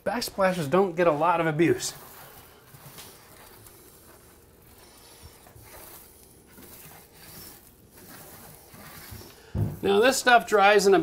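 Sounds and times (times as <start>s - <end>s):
paint roller rubbing on tile: 0.1s - 11.0s.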